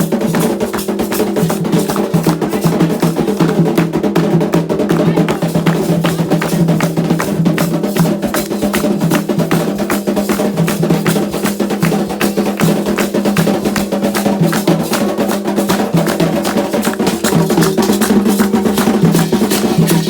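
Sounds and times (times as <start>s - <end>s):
hand drums playing fast rhythm: 0.0s - 20.0s.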